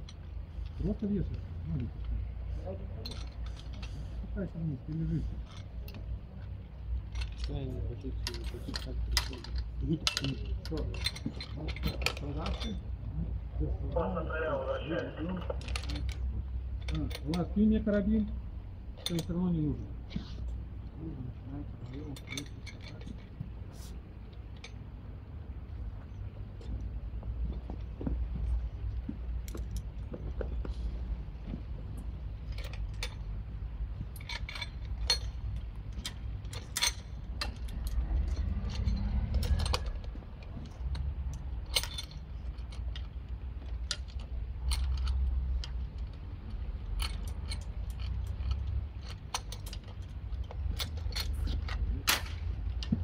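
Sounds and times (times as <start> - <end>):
metal rescue hardware clinking: 0.0 - 25.1, 25.9 - 53.0.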